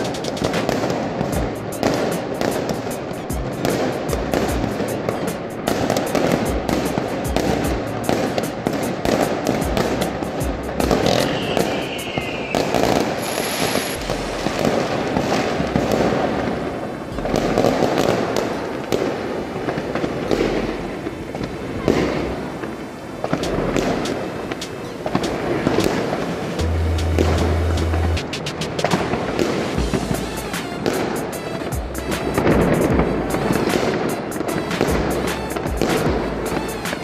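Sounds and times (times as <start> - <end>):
background music: 0.0 - 37.0
fireworks bangs and crackles: 0.0 - 37.0.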